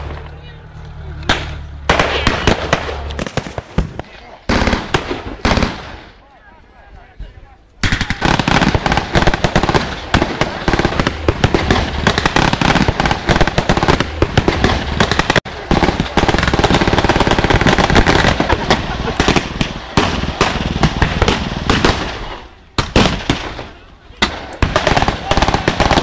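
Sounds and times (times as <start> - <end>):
rapid rifle and machine gun fire: 1.3 - 6.2, 7.8 - 26.0.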